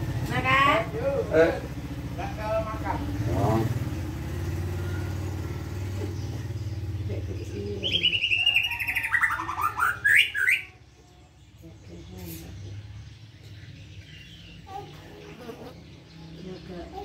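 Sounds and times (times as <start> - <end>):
vehicle engine humming: 0.0 - 17.0
bird singing: 0.6 - 17.0.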